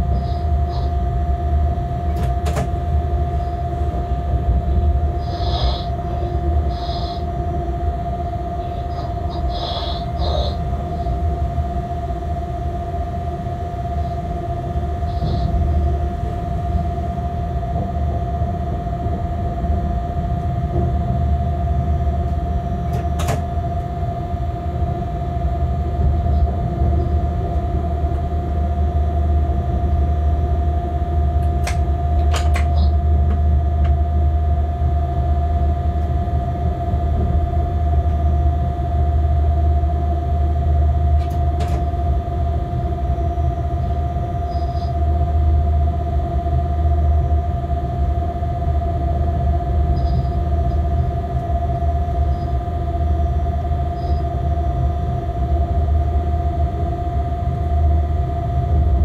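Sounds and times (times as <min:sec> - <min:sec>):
constant hum: 0:00.0 - 0:59.0
locomotive rumble: 0:00.0 - 0:59.0.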